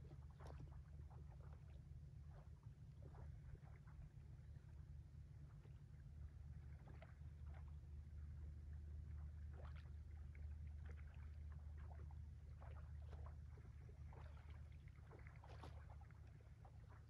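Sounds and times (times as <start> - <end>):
water lapping at shore: 0.0 - 6.0, 6.6 - 17.0.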